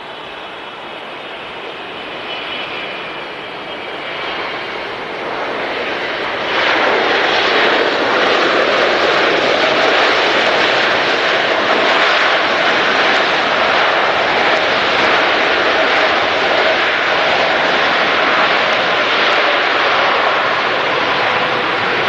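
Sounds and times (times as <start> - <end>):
jet airliner engine roar: 0.0 - 22.0.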